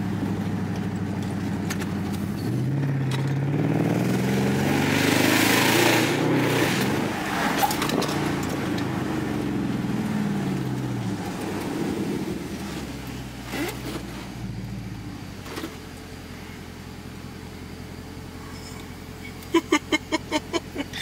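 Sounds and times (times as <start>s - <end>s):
car engine slowing to idle: 0.0s - 3.6s, 7.6s - 21.0s.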